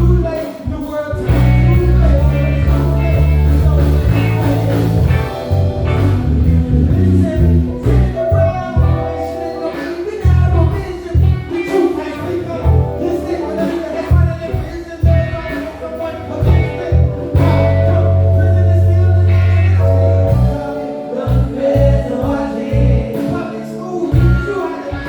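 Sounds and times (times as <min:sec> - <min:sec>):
electric bass notes: 0:00.0 - 0:00.4, 0:01.1 - 0:25.0
live soul band playing: 0:00.0 - 0:25.0.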